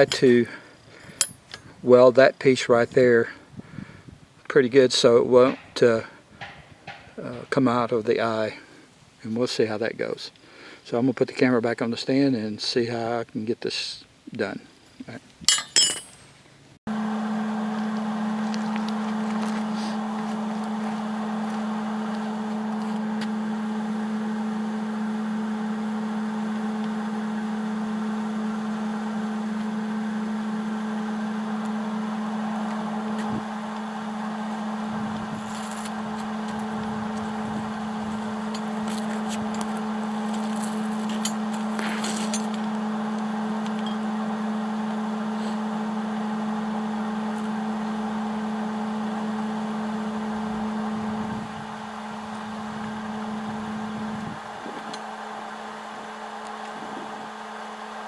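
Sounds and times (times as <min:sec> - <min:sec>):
machine hum: 0:02.7 - 0:09.2, 0:15.5 - 0:58.0.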